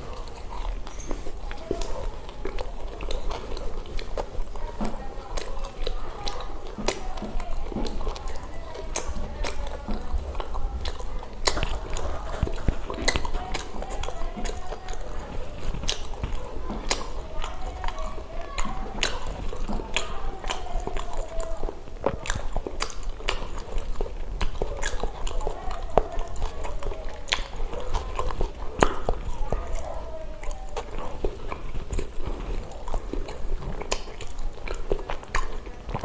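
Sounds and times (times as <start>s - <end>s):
person chewing with mouth clicks: 0.0s - 36.0s.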